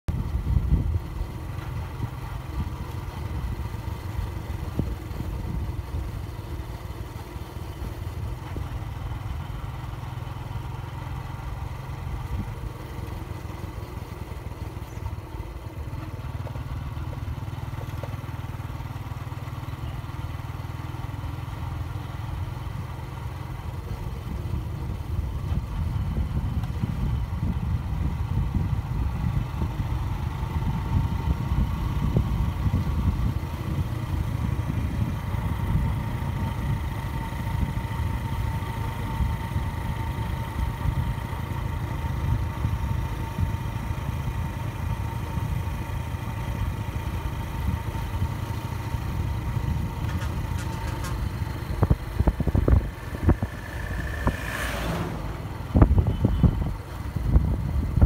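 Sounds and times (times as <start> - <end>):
motorcycle engine hum: 0.1 - 58.0.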